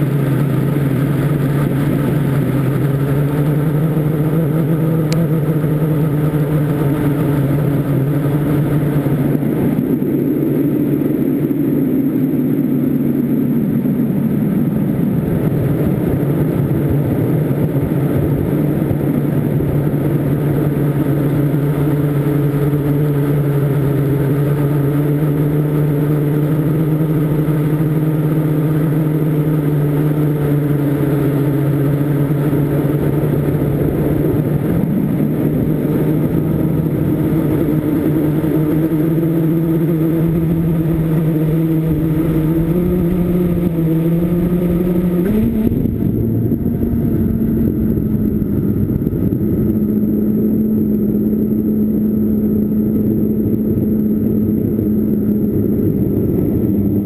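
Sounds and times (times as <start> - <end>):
quadcopter propellers buzzing: 0.0 - 57.0.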